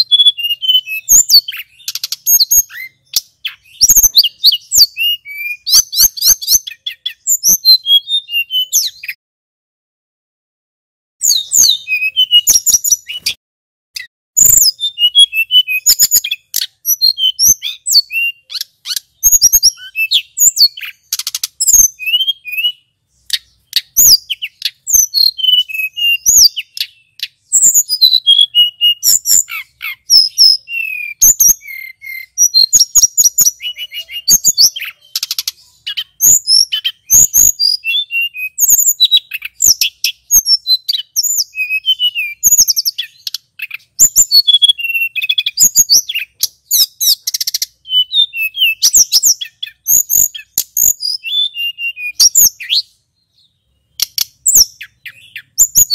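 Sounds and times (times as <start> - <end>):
bird singing rapid chirps and trills: 0.0 - 9.2, 11.2 - 13.4, 14.0 - 55.9.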